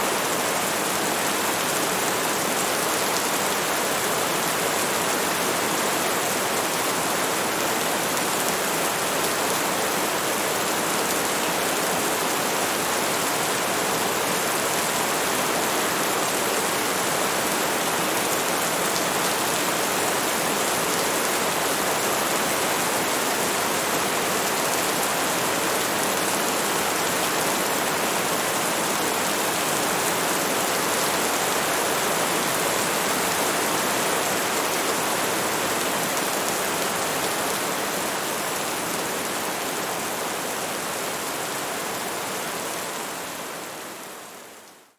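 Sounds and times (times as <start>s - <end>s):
heavy rain: 0.0s - 44.9s.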